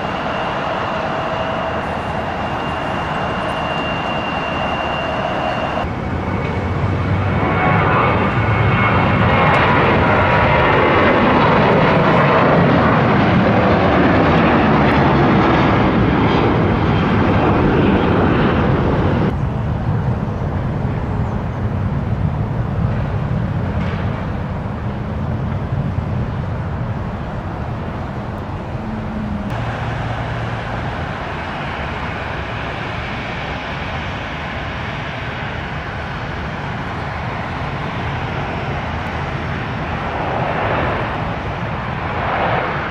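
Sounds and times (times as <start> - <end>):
airliner engines roaring: 0.0 - 42.9.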